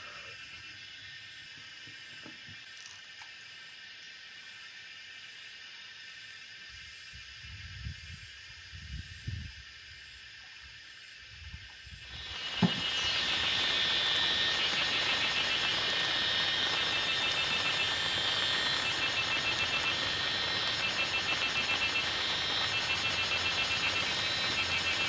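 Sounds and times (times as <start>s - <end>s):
insects buzzing: 0.0s - 25.0s.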